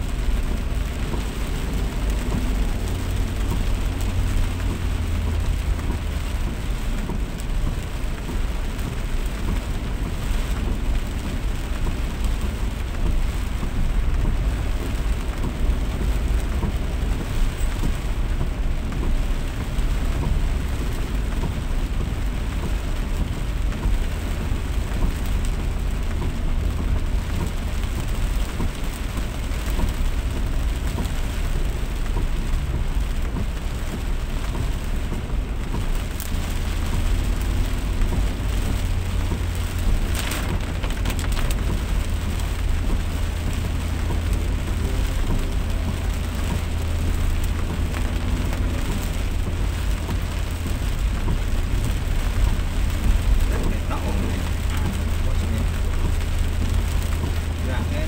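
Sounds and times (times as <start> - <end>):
heavy rain pouring: 0.0 - 58.0
low rumble: 10.8 - 58.0.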